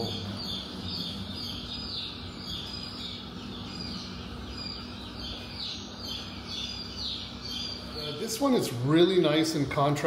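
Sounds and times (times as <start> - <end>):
small birds chirping: 0.0 - 10.0
steady low hum: 0.0 - 10.0.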